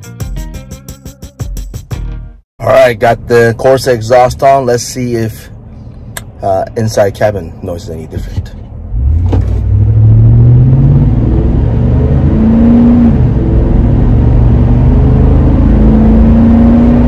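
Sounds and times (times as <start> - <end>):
car engine and road rumble: 2.6 - 17.0.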